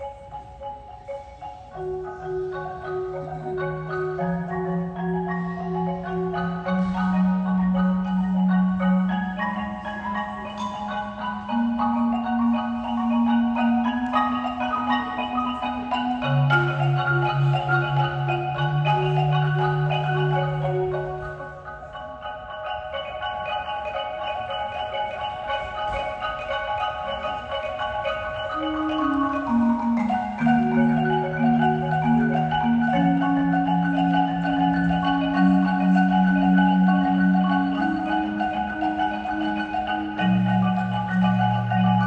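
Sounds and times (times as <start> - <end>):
marimba ensemble playing: 0.0 - 42.0.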